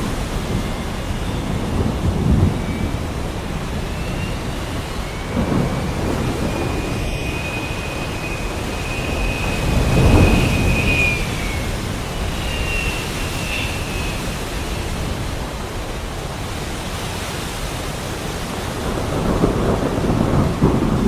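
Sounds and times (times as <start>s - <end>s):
rolling thunder: 0.0s - 16.3s, 18.5s - 21.0s
heavy rain falling: 0.0s - 21.0s
high wavering wind whistle: 0.0s - 21.0s.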